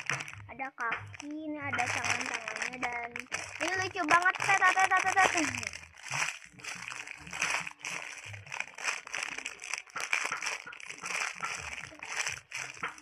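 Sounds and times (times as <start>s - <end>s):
foam toy squishing: 0.0s - 13.0s.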